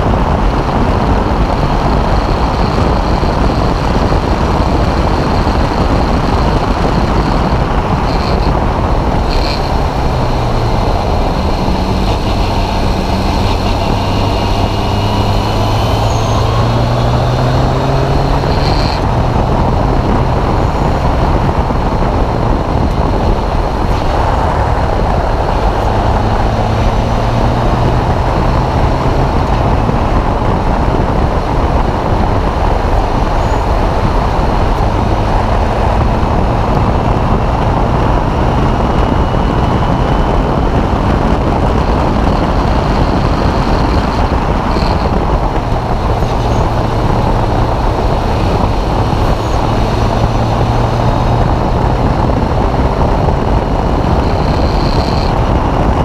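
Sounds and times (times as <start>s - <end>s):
race car engine: 0.0s - 56.0s
wind rush over microphone: 0.0s - 56.0s.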